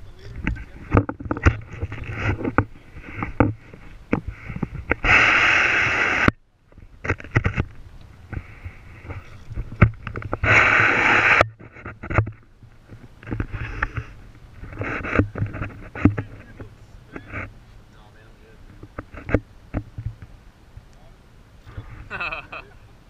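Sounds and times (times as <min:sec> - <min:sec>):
sharp clicks and knocks: 0:00.3 - 0:05.1, 0:06.1 - 0:17.5, 0:18.7 - 0:21.0.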